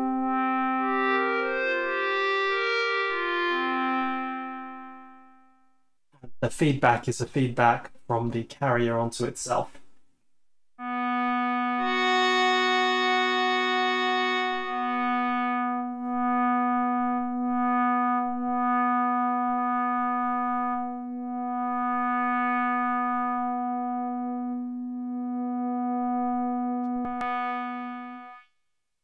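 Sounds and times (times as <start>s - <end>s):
synthesizer sustaining a held note: 0.0s - 5.7s, 10.8s - 28.5s.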